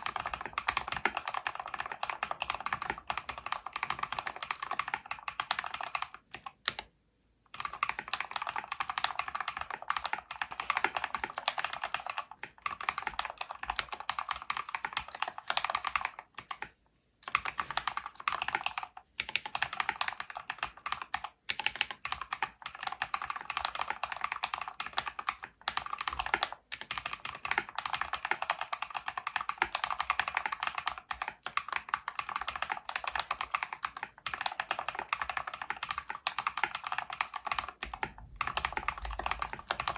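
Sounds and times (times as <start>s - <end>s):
mechanical keyboard typing: 0.0s - 6.9s, 7.6s - 39.9s.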